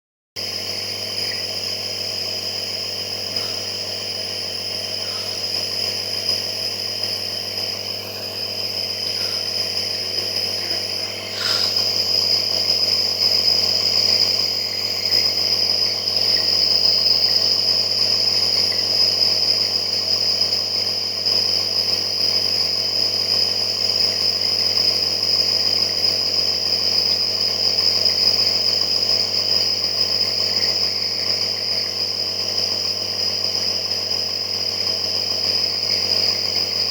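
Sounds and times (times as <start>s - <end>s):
nebulizer compressor droning: 0.4s - 36.9s.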